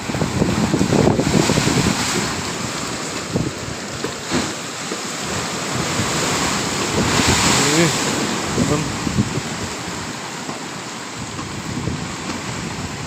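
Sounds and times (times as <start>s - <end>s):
strong wind buffeting microphone: 0.0s - 4.1s, 5.2s - 10.4s, 11.1s - 13.0s
sea waves washing: 0.0s - 13.0s.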